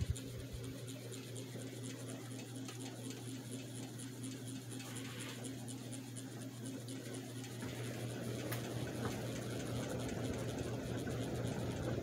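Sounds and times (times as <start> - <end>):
ceiling fan motor hum: 0.0 - 12.0
fan ticking: 0.0 - 12.0.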